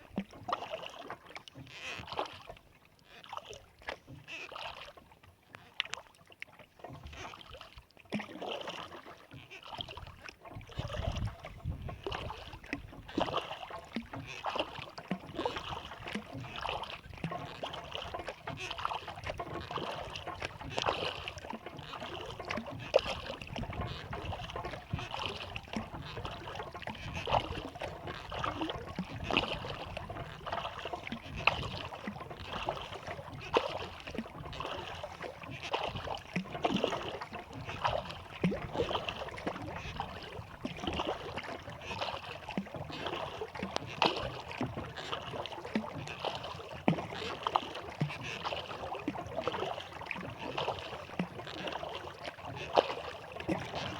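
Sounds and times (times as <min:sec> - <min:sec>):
kayak paddle strokes in water: 0:00.0 - 0:53.9
water splashing and dripping: 0:00.0 - 0:53.9.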